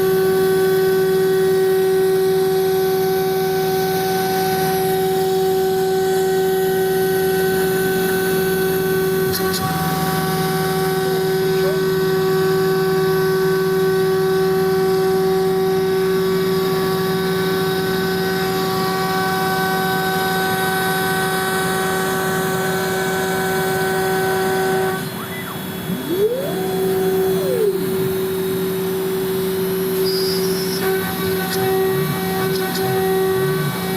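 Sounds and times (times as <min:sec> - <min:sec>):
motor whine: 0:00.0 - 0:33.9
router spindle cutting whine: 0:00.0 - 0:33.9.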